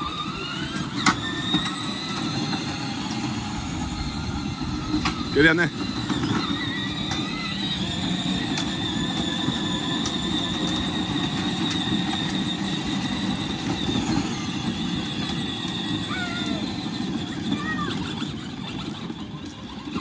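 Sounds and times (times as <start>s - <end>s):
electric motor whine: 0.0s - 20.0s
toy car wheels rolling on pavers: 0.0s - 20.0s.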